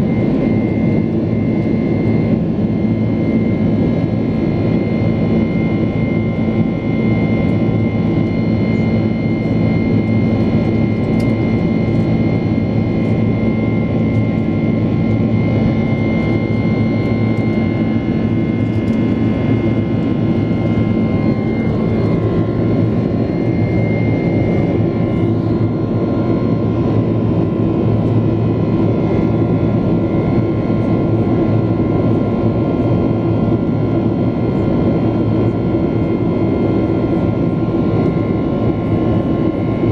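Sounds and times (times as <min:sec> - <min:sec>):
constant engine tones: 0:00.0 - 0:39.9
jet engine noise in cabin: 0:00.0 - 0:39.9.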